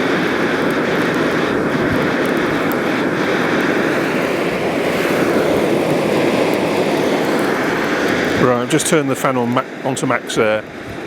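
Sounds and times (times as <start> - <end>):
forge blower fan rushing air: 0.0 - 11.0.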